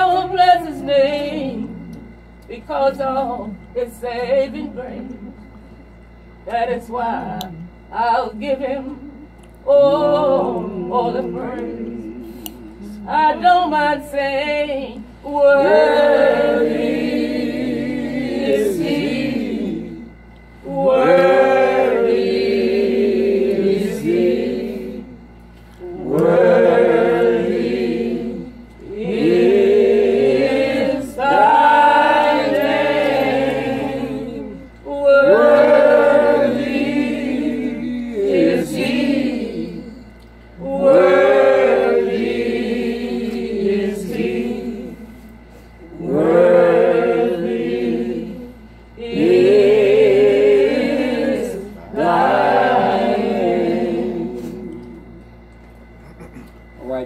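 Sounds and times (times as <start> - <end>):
congregation singing a hymn: 0.0 - 5.4, 6.4 - 56.8.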